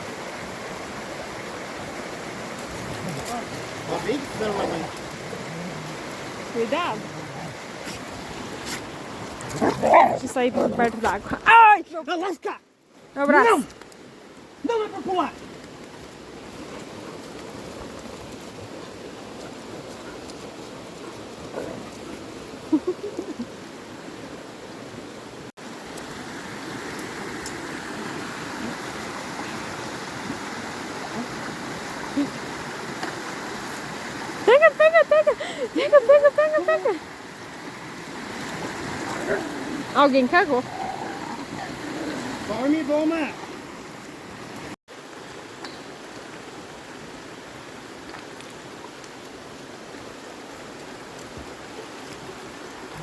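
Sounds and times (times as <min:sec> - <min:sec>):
creek rushing: 0:00.0 - 0:53.0.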